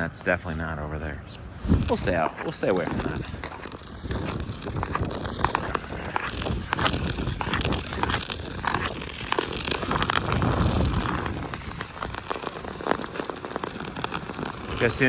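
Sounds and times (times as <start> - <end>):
ice skates scraping ice: 0.4 - 15.0.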